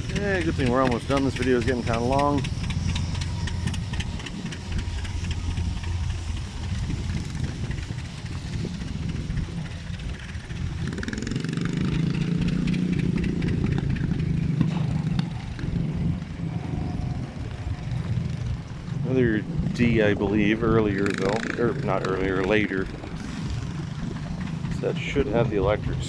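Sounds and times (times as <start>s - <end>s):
engine running: 0.0s - 26.0s
higher engine note: 0.0s - 26.0s.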